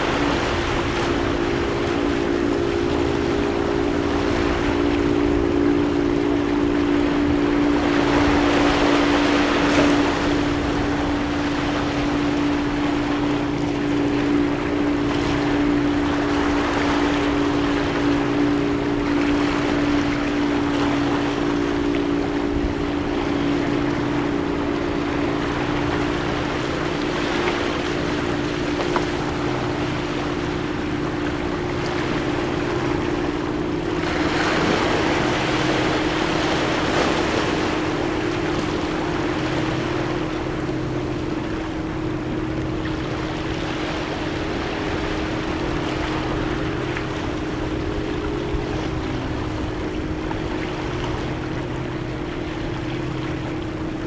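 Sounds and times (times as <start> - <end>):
engine drone: 0.0 - 54.0.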